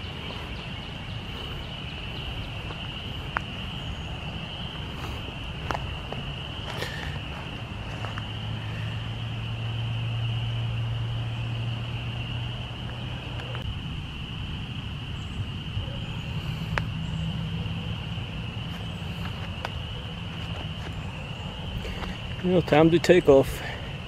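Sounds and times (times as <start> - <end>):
low engine drone: 0.0 - 22.6
spring peepers trilling: 0.0 - 24.0.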